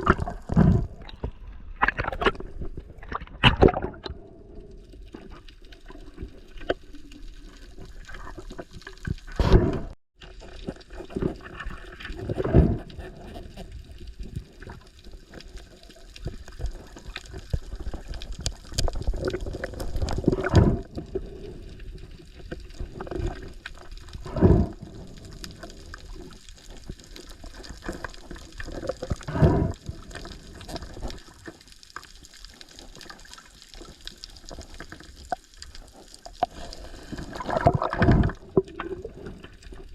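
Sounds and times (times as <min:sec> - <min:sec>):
water splashing: 0:00.0 - 0:04.3, 0:05.0 - 0:39.9
water sloshing and gurgling: 0:00.0 - 0:39.9.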